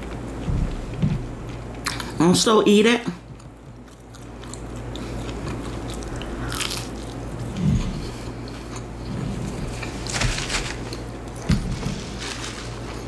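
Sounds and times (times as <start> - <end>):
biting and chewing food: 0.0 - 2.2, 3.2 - 13.0
steady low hum: 0.0 - 13.0.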